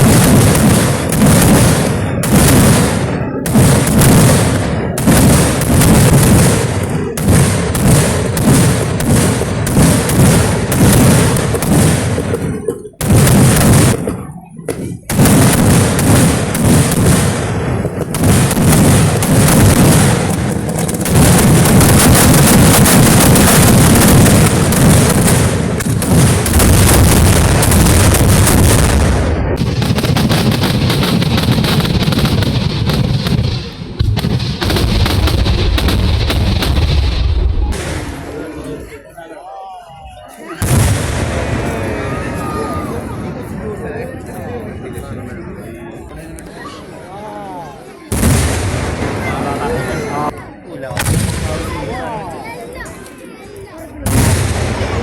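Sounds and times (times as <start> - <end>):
fireworks booming explosions: 0.0 - 39.1, 40.5 - 45.1, 48.0 - 53.1, 53.8 - 55.0.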